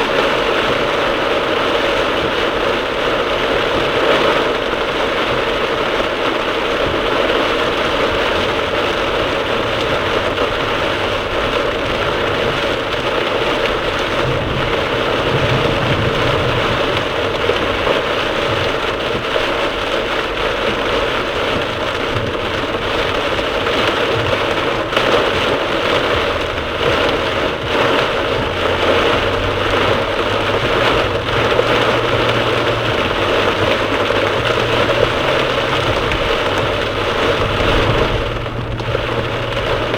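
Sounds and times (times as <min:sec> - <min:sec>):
car engine and road noise: 0:00.0 - 0:39.9
heavy rain on car roof: 0:00.0 - 0:39.9.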